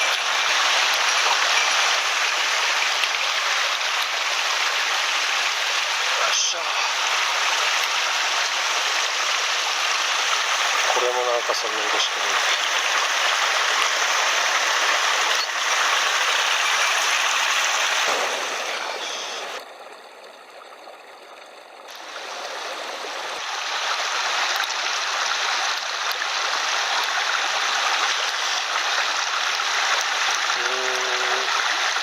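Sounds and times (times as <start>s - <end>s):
stream rushing over rocks: 0.0s - 19.8s, 21.9s - 32.0s.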